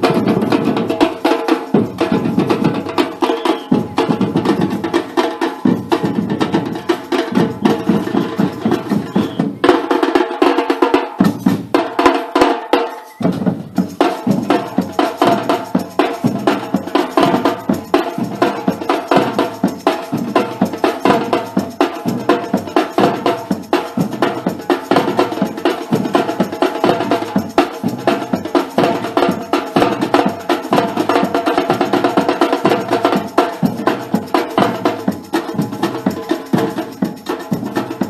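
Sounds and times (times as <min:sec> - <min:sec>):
fast busy drumming: 0:00.0 - 0:38.0.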